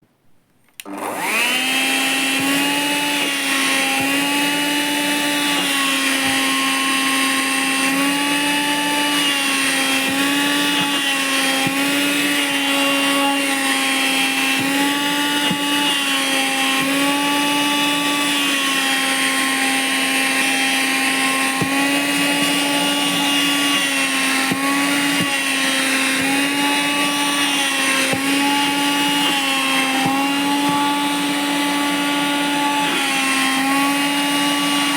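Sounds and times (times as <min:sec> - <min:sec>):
vacuum cleaner running: 0:00.8 - 0:34.9.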